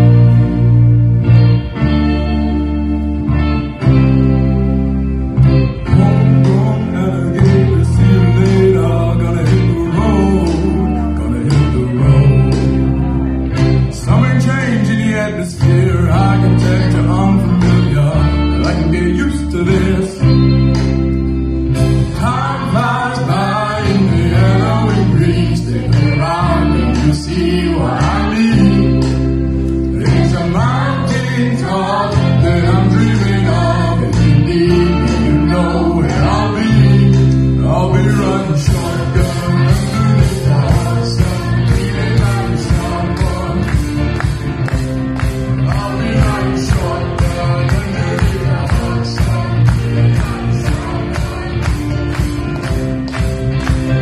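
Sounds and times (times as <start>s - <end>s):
guitar: 0.0s - 54.0s
steady bass line: 0.0s - 54.0s
pop song singing: 5.5s - 21.2s, 21.9s - 54.0s.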